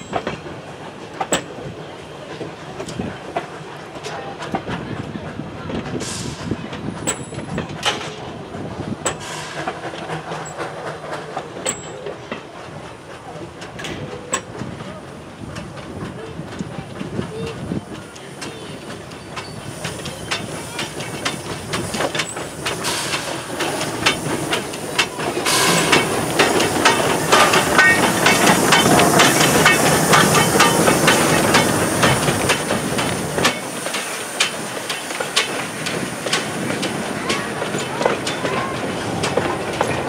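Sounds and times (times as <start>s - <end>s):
loud steam hissing: 0.0s - 40.0s
steam locomotive passing: 0.0s - 40.0s
wheels clicking over rail joints: 0.0s - 40.0s.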